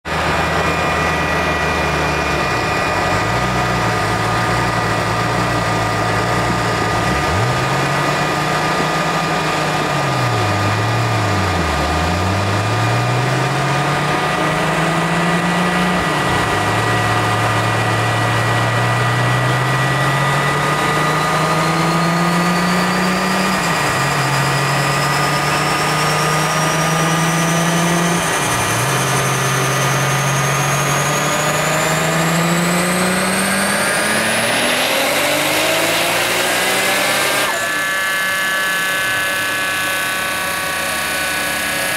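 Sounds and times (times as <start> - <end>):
car engine revving on dyno: 0.0 - 41.9
high turbo whine: 0.0 - 41.9.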